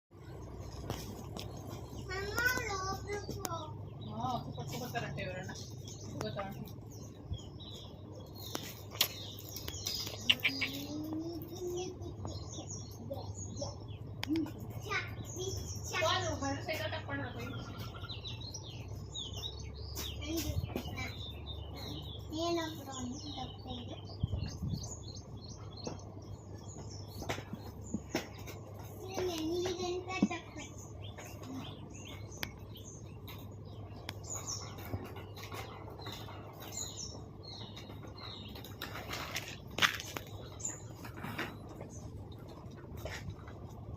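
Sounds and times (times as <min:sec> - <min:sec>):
low background hum: 0:00.1 - 0:43.9
small birds chirping: 0:00.1 - 0:43.9.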